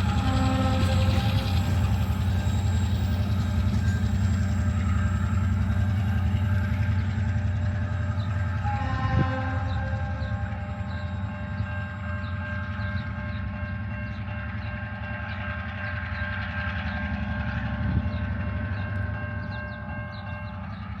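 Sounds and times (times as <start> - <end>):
diesel locomotive rumbling past: 0.0 - 21.0.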